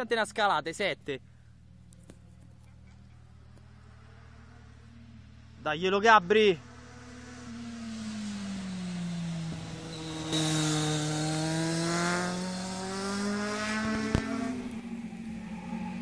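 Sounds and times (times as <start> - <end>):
motorcycle engine slowing and accelerating: 1.2 - 5.6, 6.2 - 16.0.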